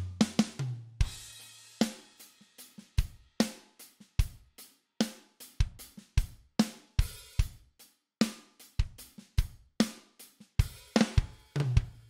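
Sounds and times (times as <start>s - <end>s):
drum kit playing a groove: 0.0s - 12.0s.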